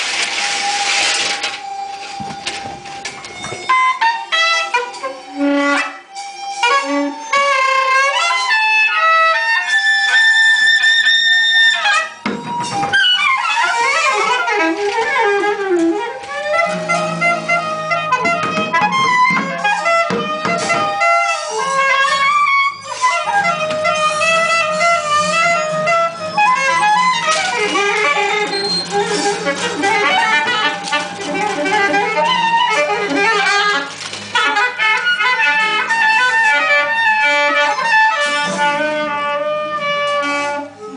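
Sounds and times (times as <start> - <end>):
wind instrument playing: 0.0 - 40.9.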